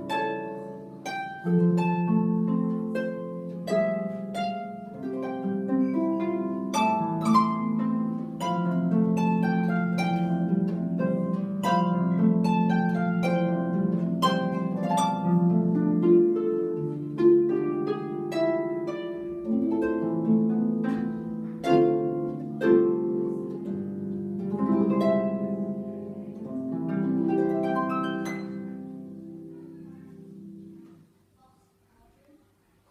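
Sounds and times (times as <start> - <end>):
solo harp playing: 0.0 - 31.0.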